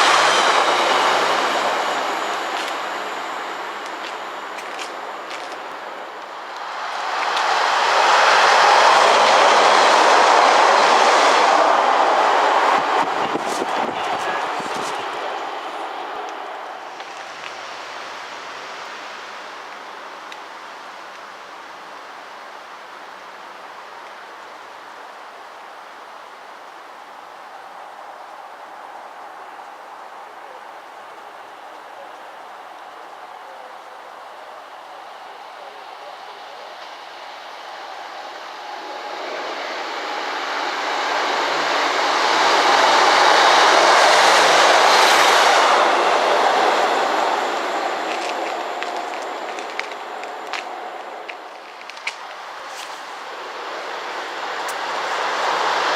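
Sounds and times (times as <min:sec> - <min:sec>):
train rolling hiss: 0:00.0 - 0:24.0, 0:32.0 - 0:55.9.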